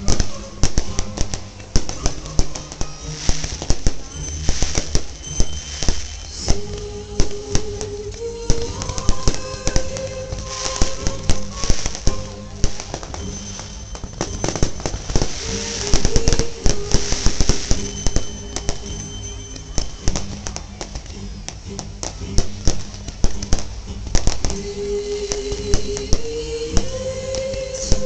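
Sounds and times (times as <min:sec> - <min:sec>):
fireworks bangs and crackling: 0:00.0 - 0:28.0
music with held notes: 0:00.0 - 0:28.0.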